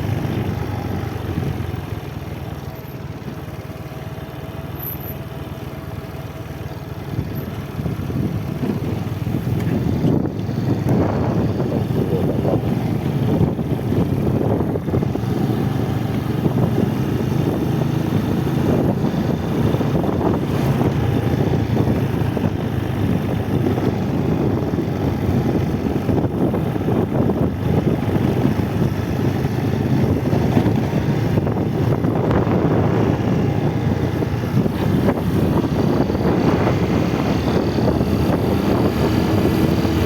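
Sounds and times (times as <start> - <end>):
motorcycle engine drone: 0.0 - 40.0
wind rushing over microphone: 7.1 - 40.0.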